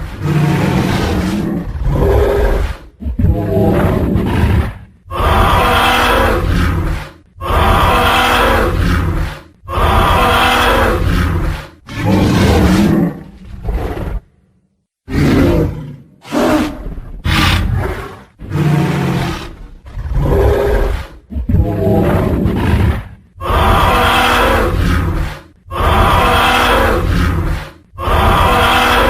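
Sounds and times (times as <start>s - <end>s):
dinosaur roars: 0.0s - 14.3s, 15.1s - 29.0s.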